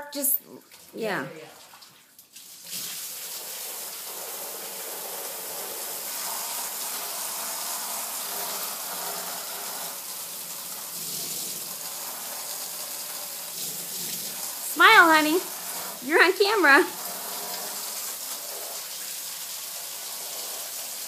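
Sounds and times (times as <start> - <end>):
hose water splashing on ground: 1.6 - 21.0.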